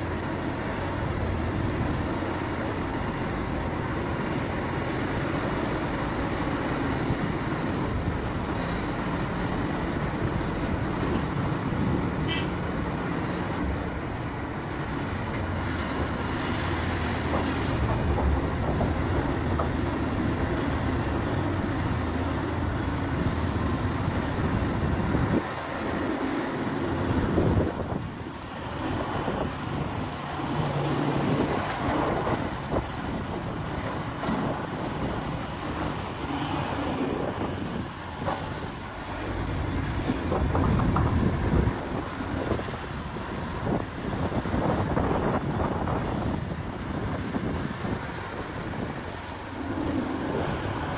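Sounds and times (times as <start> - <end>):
heavy diesel engines under load: 0.0 - 50.9.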